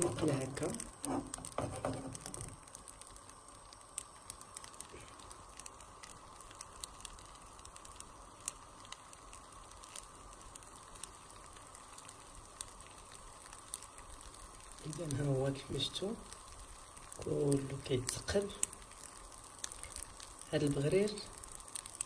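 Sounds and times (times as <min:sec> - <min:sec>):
batter hissing and popping in pan: 0:00.0 - 0:22.0.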